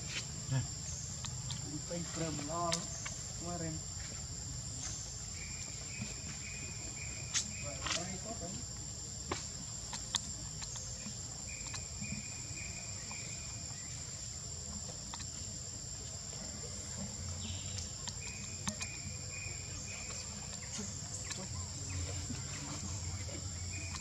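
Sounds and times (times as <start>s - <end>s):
insects droning: 0.0s - 24.0s
low pulsing chirp: 0.0s - 24.0s.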